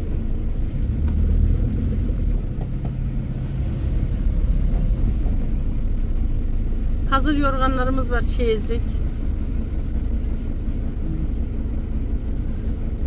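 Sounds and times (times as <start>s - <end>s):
car interior road rumble: 0.0s - 13.0s.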